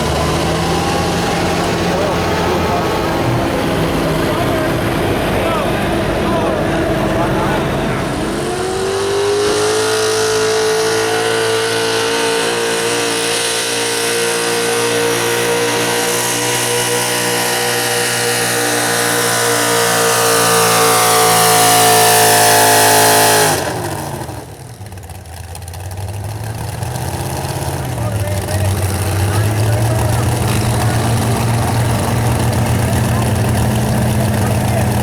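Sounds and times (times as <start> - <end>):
truck engine at full throttle: 0.0 - 35.0.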